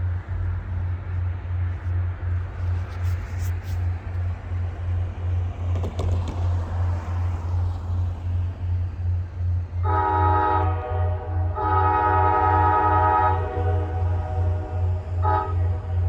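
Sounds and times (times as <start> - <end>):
diesel locomotive engine throbbing: 0.0 - 16.0.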